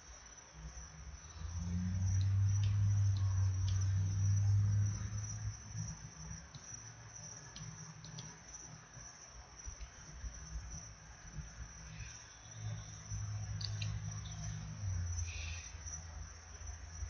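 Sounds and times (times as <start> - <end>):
low hum: 0.5 - 17.0.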